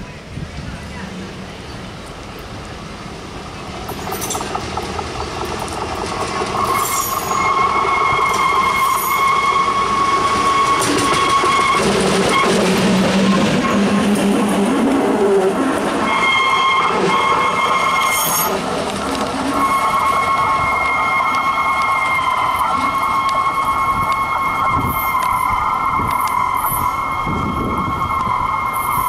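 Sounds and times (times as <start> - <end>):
engine and rail wheels rumbling: 0.0 - 29.0.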